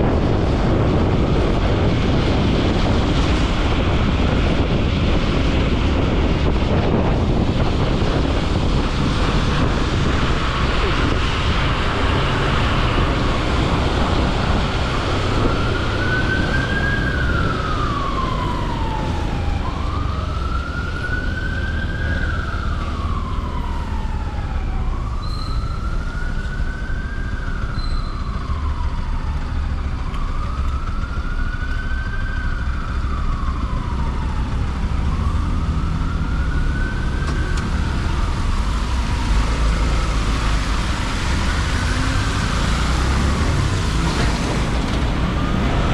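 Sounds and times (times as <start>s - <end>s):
emergency siren wailing: 0.0s - 45.9s
road noise: 0.0s - 45.9s.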